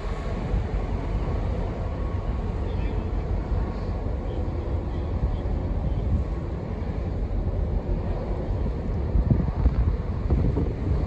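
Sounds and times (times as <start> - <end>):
ferry engines rumbling: 0.0 - 11.0
propeller wash churning water: 0.0 - 11.0.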